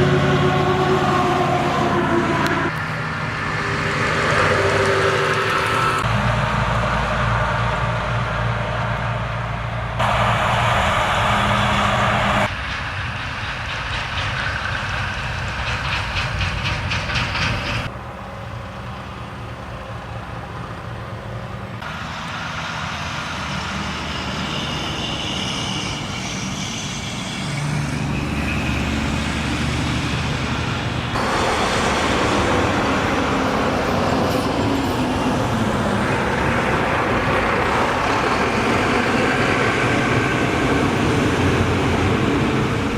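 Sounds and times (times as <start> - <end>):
diesel truck engines passing: 0.0 - 15.8, 16.6 - 42.9
tyre and road noise: 0.0 - 42.9.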